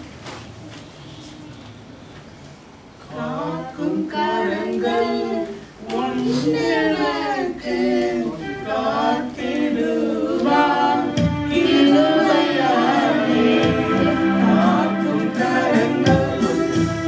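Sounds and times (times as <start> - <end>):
people singing into microphones: 3.0 - 17.0.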